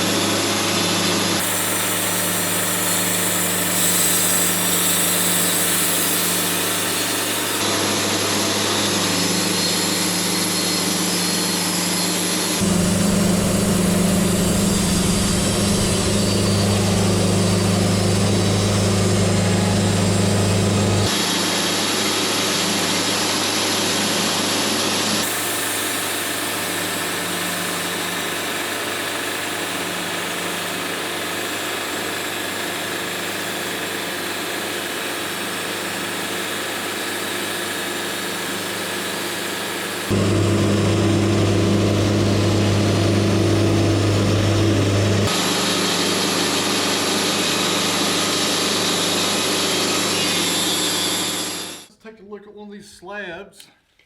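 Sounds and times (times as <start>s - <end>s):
sawmill sawing wood: 0.0s - 51.9s.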